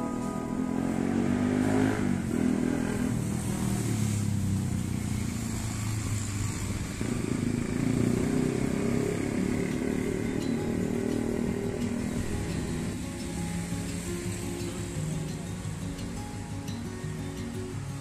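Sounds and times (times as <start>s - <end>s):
motorcycles passing by: 0.0s - 18.0s.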